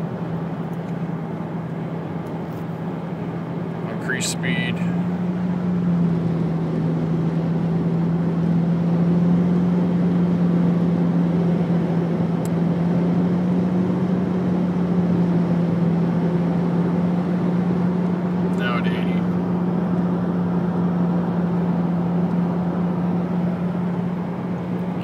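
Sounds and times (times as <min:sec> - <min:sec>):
low exhaust drone: 0:00.0 - 0:25.0
wind and road rush: 0:00.0 - 0:25.0.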